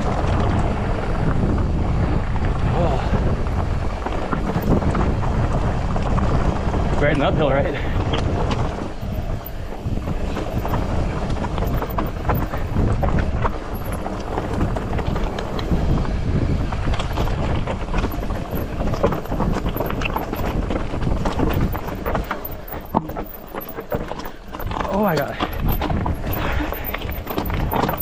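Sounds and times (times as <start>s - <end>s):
bike rattling: 0.0s - 28.0s
wind rumble on microphone: 0.0s - 28.0s
tyres crunching over gravel: 3.8s - 28.0s.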